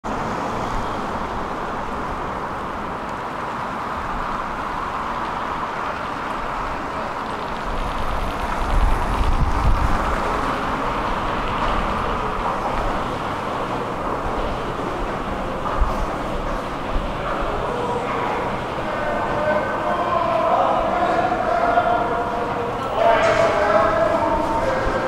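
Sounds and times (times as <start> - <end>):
road traffic: 0.0 - 25.0
vehicle passing with low rumble: 0.1 - 25.0.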